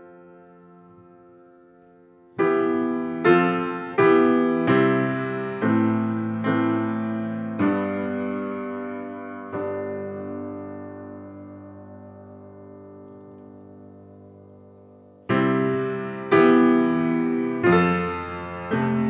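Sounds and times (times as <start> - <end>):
grand piano chords: 0.0 - 19.0.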